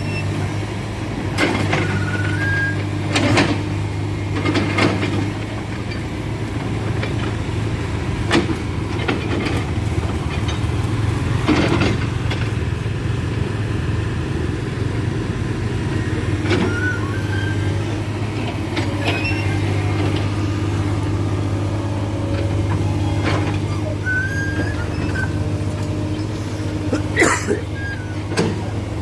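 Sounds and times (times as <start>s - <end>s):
diesel engine running: 0.0s - 29.0s
engine knocks: 1.2s - 29.0s.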